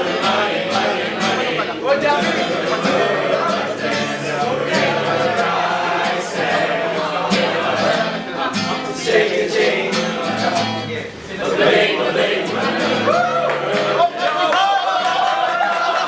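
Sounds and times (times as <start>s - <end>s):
plucked guitar: 0.0s - 14.0s
people singing: 0.0s - 16.0s.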